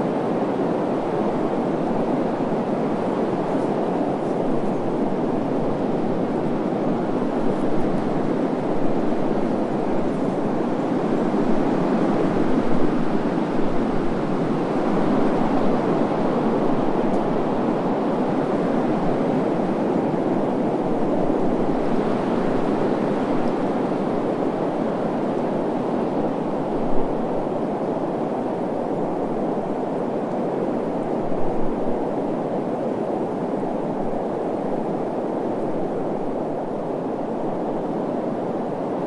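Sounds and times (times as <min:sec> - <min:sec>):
wind blowing: 0:00.0 - 0:39.0.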